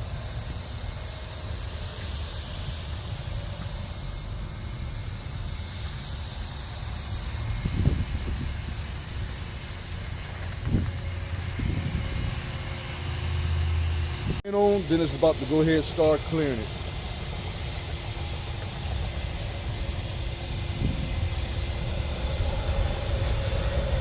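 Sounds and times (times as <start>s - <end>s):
paint spray gun hissing: 0.0s - 24.0s.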